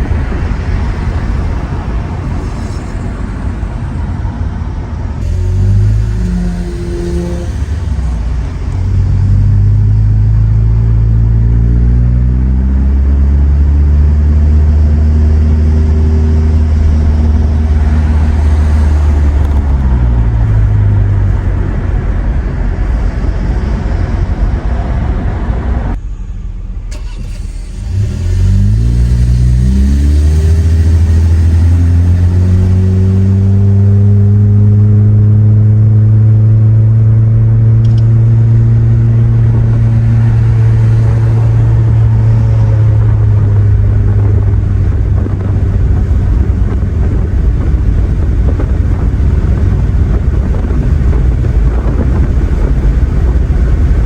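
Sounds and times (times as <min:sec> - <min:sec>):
car engine drone from cabin: 0:00.0 - 0:54.0.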